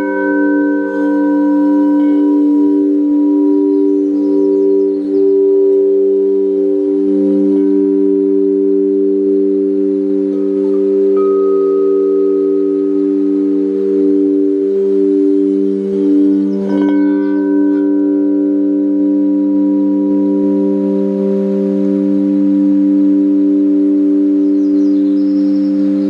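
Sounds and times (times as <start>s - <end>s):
singing bowls ringing: 0.0s - 26.0s.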